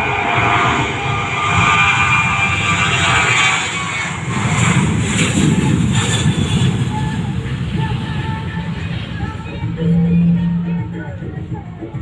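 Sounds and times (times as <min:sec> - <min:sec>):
high turbine whine: 0:00.0 - 0:12.0
jet engines rumbling: 0:00.0 - 0:12.0.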